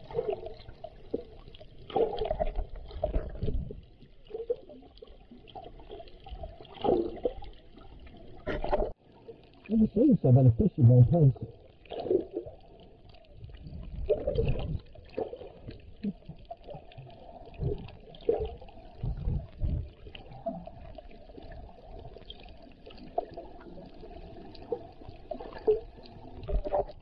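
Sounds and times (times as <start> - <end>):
underwater sloshing swishes: 0.0 - 27.0.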